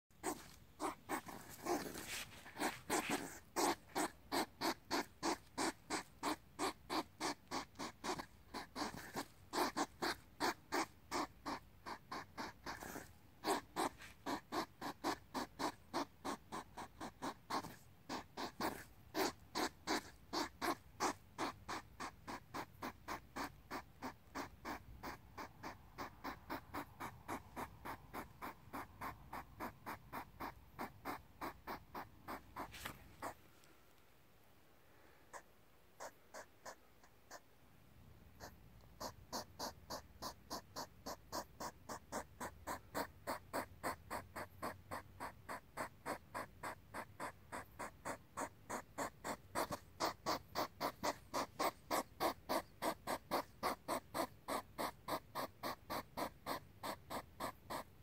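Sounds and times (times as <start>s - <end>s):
hedgehog snorting and puffing: 0.1s - 33.4s, 38.4s - 58.0s.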